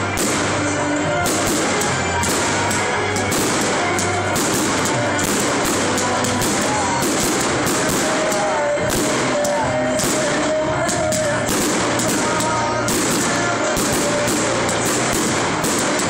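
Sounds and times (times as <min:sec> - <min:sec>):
fireworks bursting and crackling: 0:00.0 - 0:16.0
held melody line: 0:00.0 - 0:16.0
loud music with beat: 0:00.0 - 0:16.0.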